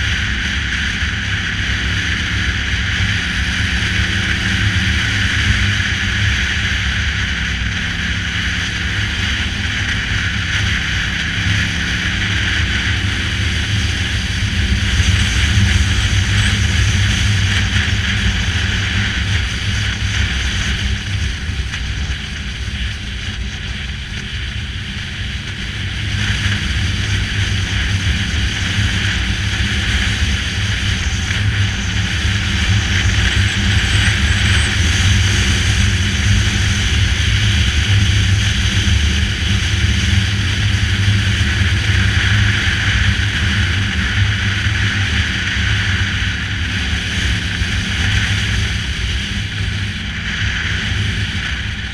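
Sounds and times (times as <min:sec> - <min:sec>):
wind noise on microphone: 0:00.0 - 0:51.9.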